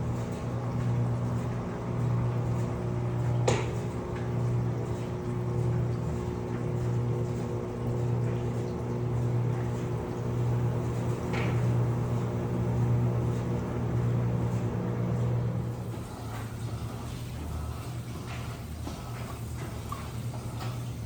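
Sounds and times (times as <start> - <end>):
washing machine motor hum: 0.0 - 21.0.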